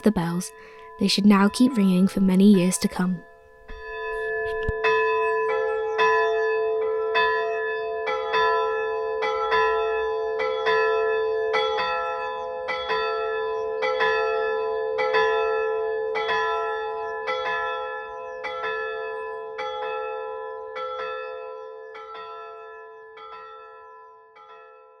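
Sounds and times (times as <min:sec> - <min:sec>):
church bells chiming: 0:00.0 - 0:25.0.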